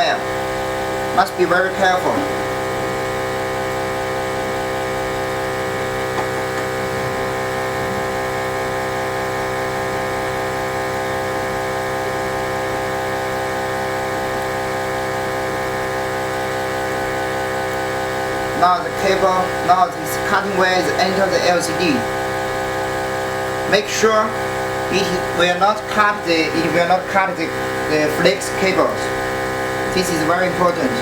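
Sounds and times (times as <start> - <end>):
machine motor hum: 0.0 - 31.0.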